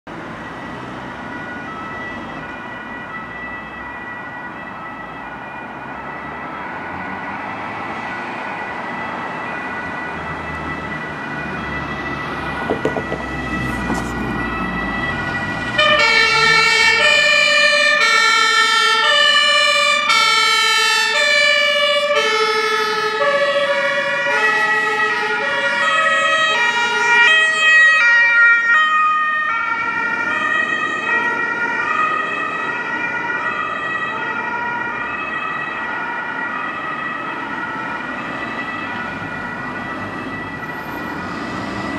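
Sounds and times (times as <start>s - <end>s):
two-tone emergency sirens: 0.1s - 41.9s.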